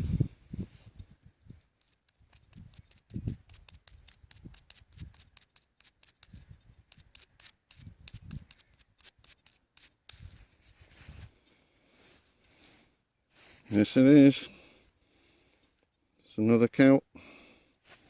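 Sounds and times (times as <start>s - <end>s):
hands scratching soil: 0.0s - 16.0s.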